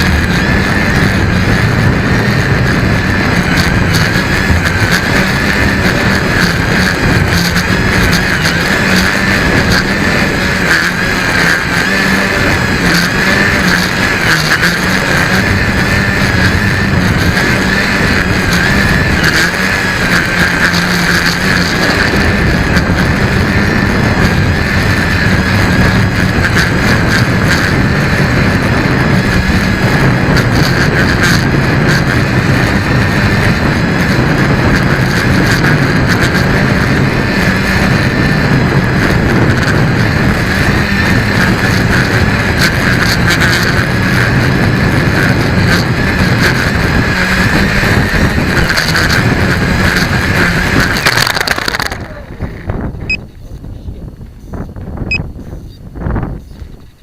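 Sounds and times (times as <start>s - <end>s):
electric motors and propellers whining: 0.0s - 57.0s
wind rushing over microphone: 0.0s - 57.0s.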